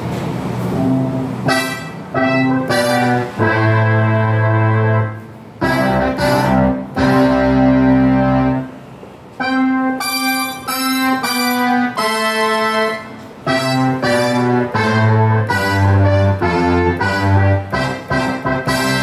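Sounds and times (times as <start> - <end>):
synthesizer chords: 0.5 - 19.0.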